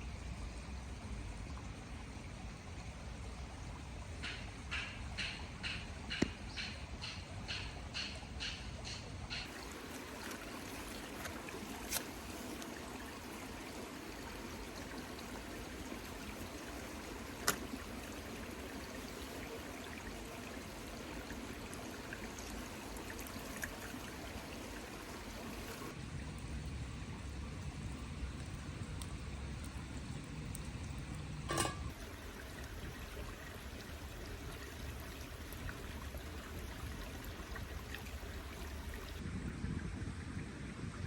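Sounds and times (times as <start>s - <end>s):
trickling water: 0.0s - 39.2s.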